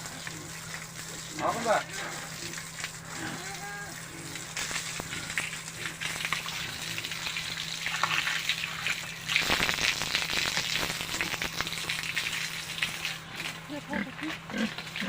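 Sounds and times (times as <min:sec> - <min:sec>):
hose water spattering on concrete: 0:00.0 - 0:13.7.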